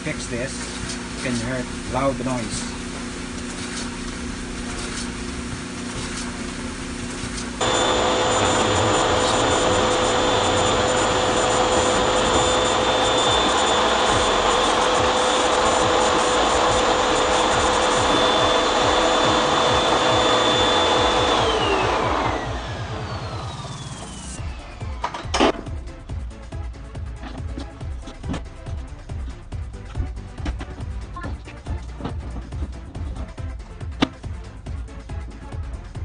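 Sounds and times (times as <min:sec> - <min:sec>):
clothes dryer rushing and whining: 0:00.0 - 0:26.3, 0:27.4 - 0:34.1.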